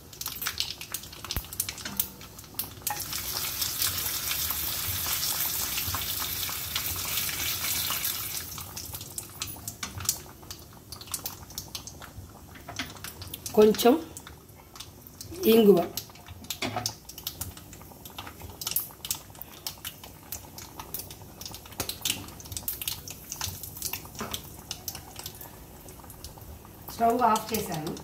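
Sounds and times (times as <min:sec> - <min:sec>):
seeds crackling in hot oil: 0:00.0 - 0:28.0.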